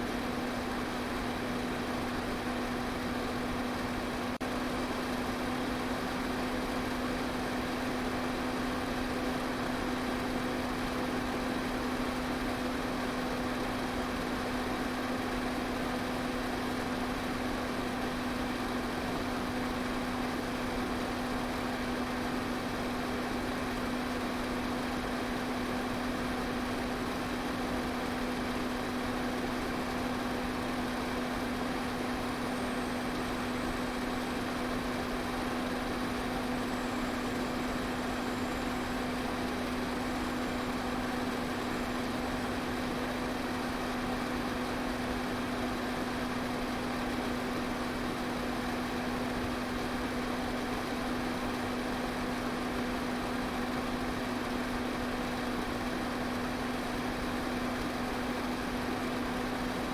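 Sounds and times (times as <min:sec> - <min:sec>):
electric fan running: 0:00.0 - 0:59.9.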